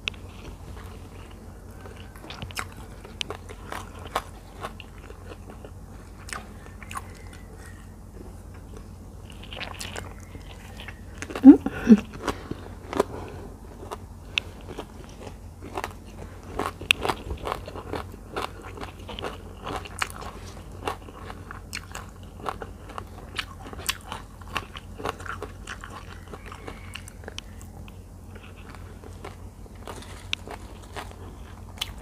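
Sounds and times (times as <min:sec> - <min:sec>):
wet chewing with crunches: 0:00.0 - 0:32.0.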